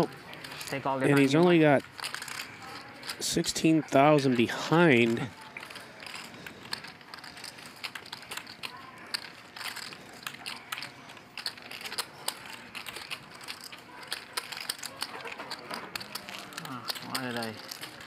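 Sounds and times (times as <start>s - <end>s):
poker chips clicking: 0.0s - 18.0s.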